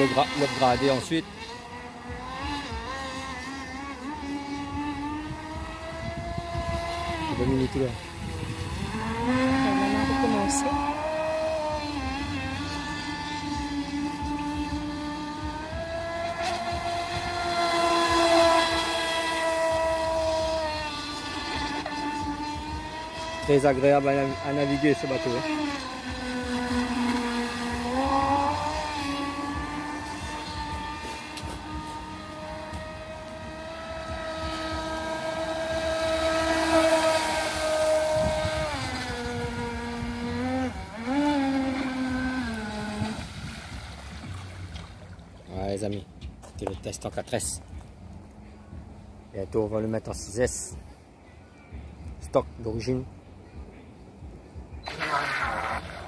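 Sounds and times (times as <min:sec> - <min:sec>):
electric motor whine: 0:00.0 - 0:45.2.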